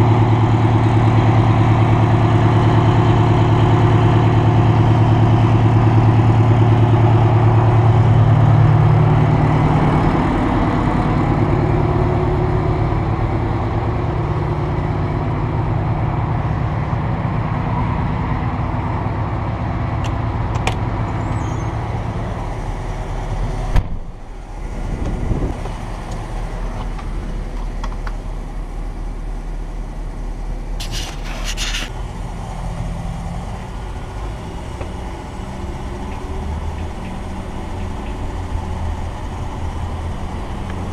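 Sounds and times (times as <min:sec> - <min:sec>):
bus diesel engine idling: 0:00.0 - 0:40.9.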